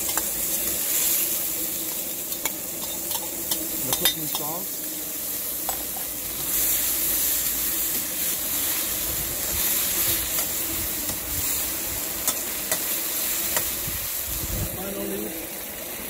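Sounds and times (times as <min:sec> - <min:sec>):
sauce sizzling in a wok: 0:00.0 - 0:16.0.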